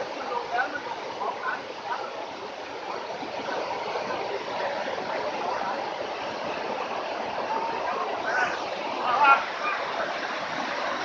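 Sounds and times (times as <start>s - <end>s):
waterfall water rushing: 0.0s - 11.0s.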